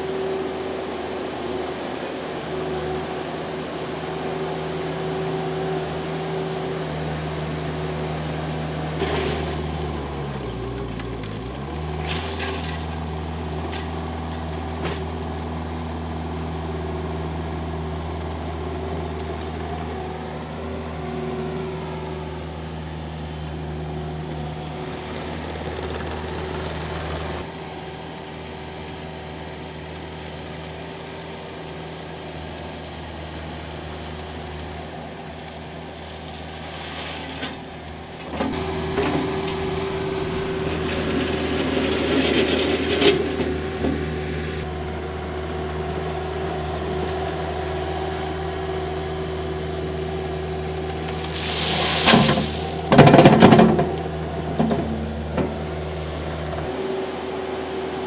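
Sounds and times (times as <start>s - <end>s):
loader engine running: 0.0s - 58.0s
loader scooping and dumping gravel: 0.0s - 58.0s.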